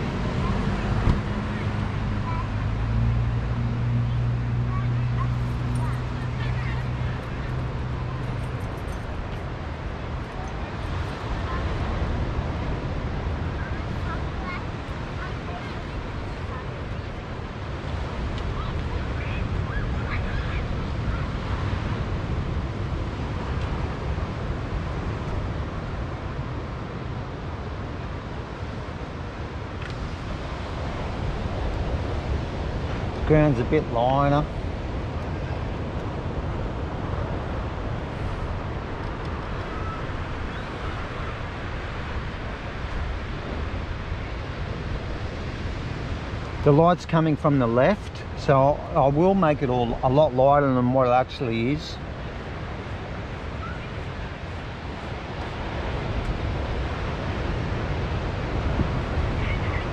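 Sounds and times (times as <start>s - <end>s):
surf rushing: 0.0s - 59.9s
wind rumbling on microphone: 0.0s - 59.9s.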